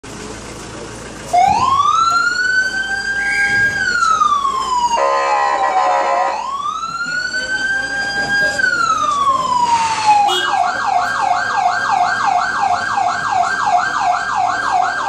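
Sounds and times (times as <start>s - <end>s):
ambulance siren wailing: 1.3s - 15.0s.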